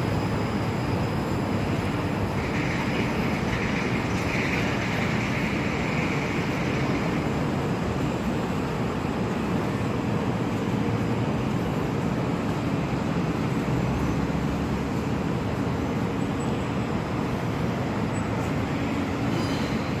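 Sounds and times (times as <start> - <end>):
street traffic: 0.0 - 20.0
streetcar rumbling: 0.0 - 20.0.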